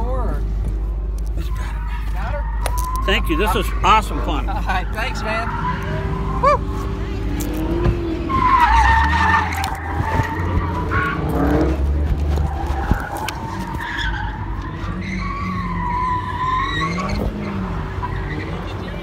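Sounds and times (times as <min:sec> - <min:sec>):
car engine rumble: 0:00.0 - 0:19.0
tyres squealing: 0:01.3 - 0:19.0.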